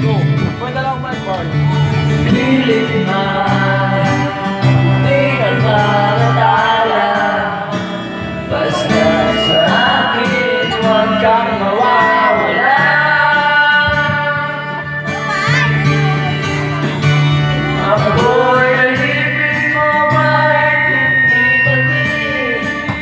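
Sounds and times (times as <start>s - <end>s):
backing music with guitar: 0.0s - 23.0s
man singing into a microphone: 2.2s - 16.7s, 17.6s - 23.0s.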